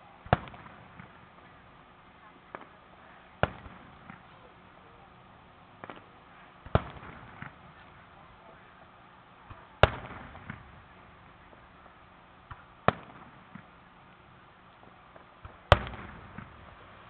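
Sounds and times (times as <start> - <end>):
faint fireworks pops: 0.0 - 17.0
fireworks booming: 0.0 - 17.0.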